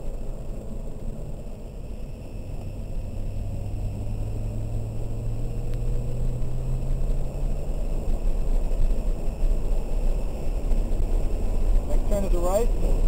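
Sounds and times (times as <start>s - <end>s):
car engine accelerating: 0.0s - 13.0s
tyre and road noise rumble: 0.0s - 13.0s.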